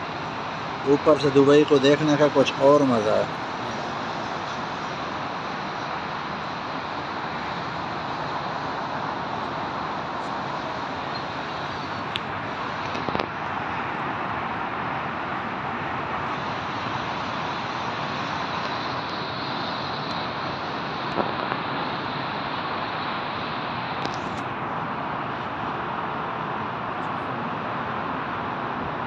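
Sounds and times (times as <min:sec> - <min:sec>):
distant road traffic: 0:00.0 - 0:29.0.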